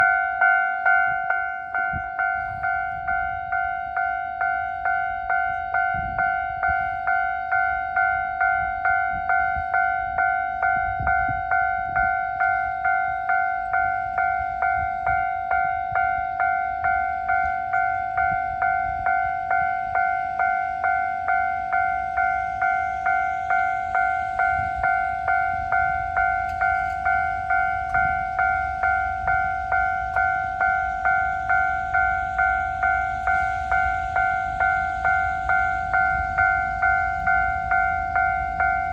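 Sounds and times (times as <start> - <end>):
level crossing bell ringing: 0.0 - 38.9
train rumbling: 0.0 - 38.9.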